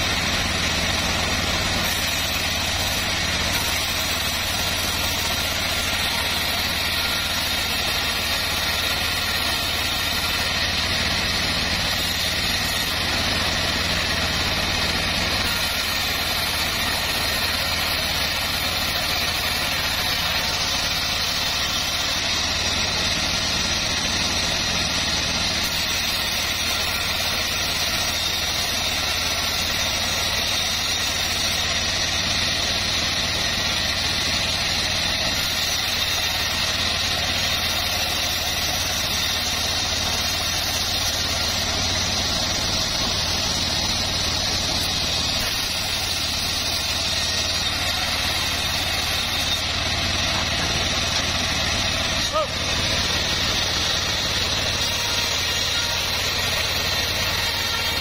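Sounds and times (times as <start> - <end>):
band sawmill humming: 0.0 - 58.0
saw blade cutting log hiss: 0.0 - 58.0.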